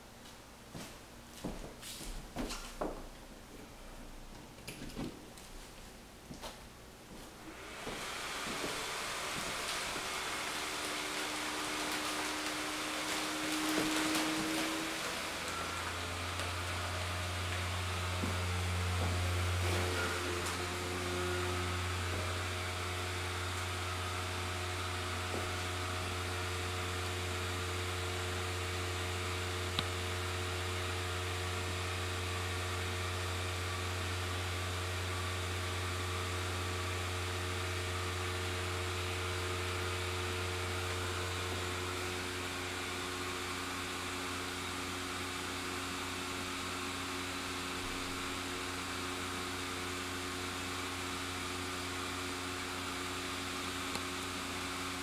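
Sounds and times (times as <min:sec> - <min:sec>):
blower fan humming: 0:00.0 - 0:55.0.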